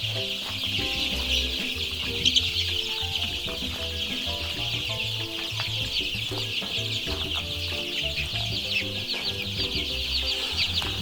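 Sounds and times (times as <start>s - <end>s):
background music: 0.0s - 11.0s
chickens peeping: 0.0s - 11.0s.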